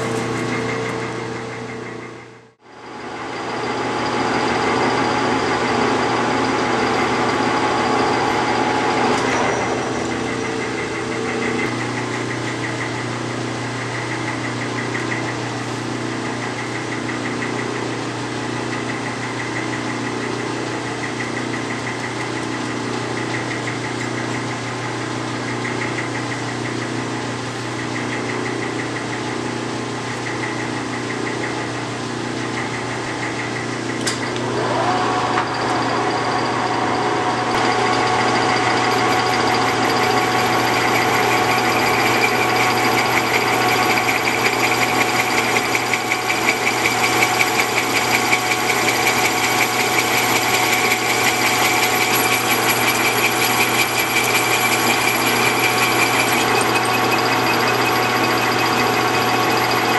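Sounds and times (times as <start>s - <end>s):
metal lathe humming: 0.0s - 24.7s, 29.6s - 59.9s.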